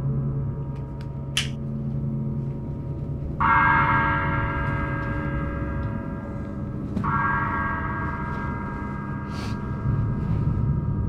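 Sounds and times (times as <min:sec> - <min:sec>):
low steady drone: 0:00.0 - 0:11.0
struck gong tones: 0:00.0 - 0:11.0.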